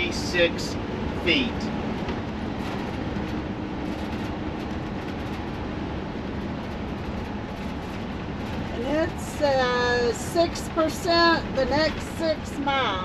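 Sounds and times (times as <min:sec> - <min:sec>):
faint low engine hum: 0:00.0 - 0:13.0
tyre and wind rumble: 0:00.0 - 0:13.0.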